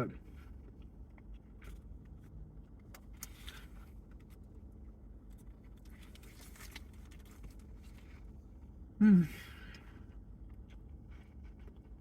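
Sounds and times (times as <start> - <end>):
low steady hum: 0.0 - 12.0
person chewing softly: 0.2 - 12.0.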